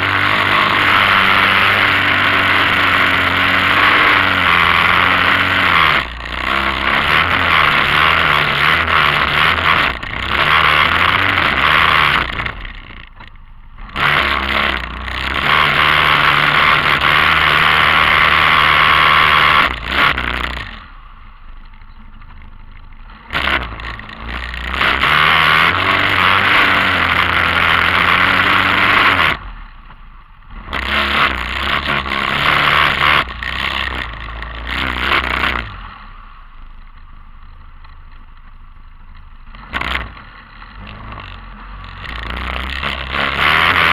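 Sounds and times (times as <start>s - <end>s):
quad bike engine revving and idling: 0.0s - 43.9s.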